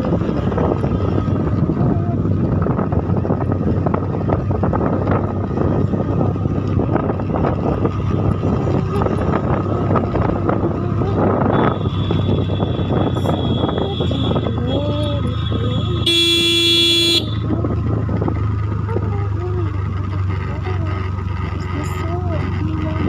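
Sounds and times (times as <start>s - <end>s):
wind buffeting microphone: 0.0s - 16.1s, 17.4s - 23.0s
vehicle engine running: 0.0s - 23.0s.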